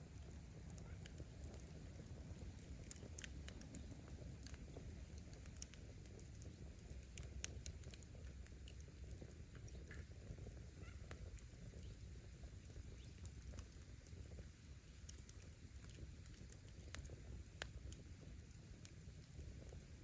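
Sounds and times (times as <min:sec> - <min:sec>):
low fire rumble: 0:00.0 - 0:20.0
firewood popping: 0:00.1 - 0:20.0.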